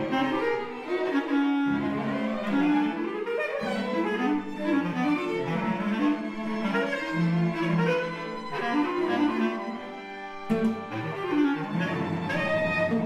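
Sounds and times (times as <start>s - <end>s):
bowed strings music: 0.0s - 13.0s.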